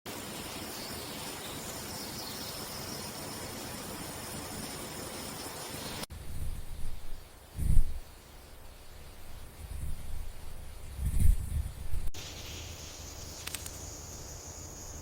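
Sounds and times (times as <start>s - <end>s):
steady outdoor hiss: 0.1s - 15.0s.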